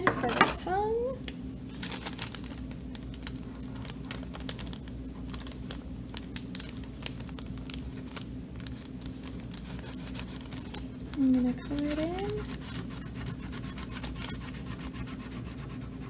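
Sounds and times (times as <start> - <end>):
steady low hum: 0.0 - 16.0
paper bag crinkling: 1.7 - 14.7.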